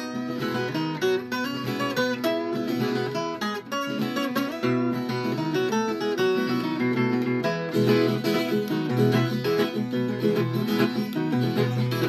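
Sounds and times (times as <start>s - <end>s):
steel-string guitar plucked and strummed: 0.0s - 12.0s.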